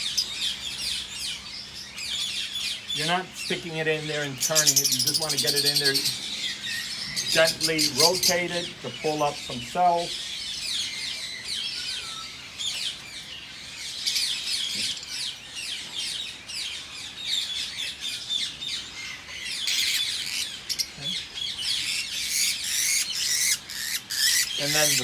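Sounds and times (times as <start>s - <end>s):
lovebirds chattering: 0.0s - 25.0s.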